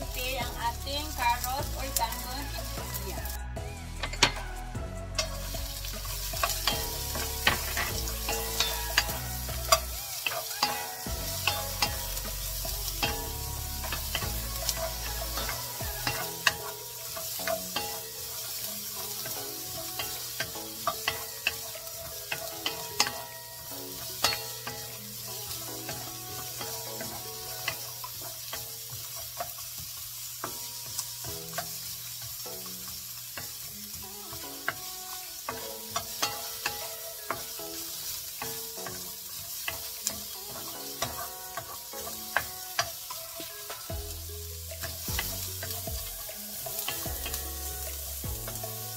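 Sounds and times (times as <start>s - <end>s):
carrots sizzling in oil: 0.0s - 48.9s.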